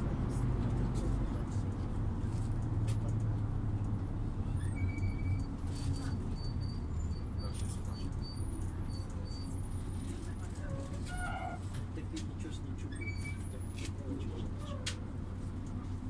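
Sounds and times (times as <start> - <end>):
bus engine humming: 0.0 - 16.0
road and body noise: 0.0 - 16.0.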